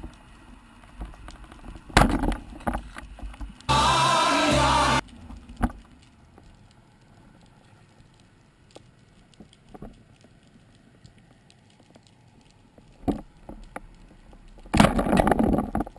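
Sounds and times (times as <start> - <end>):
faint crackle: 0.0 - 3.7, 5.0 - 15.9.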